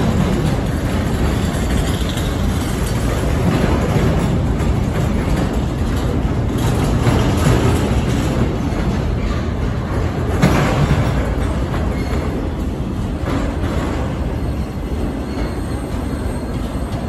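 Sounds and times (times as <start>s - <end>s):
freight car clanks: 0.0s - 14.4s
train wheels rumbling on rail: 0.0s - 17.0s.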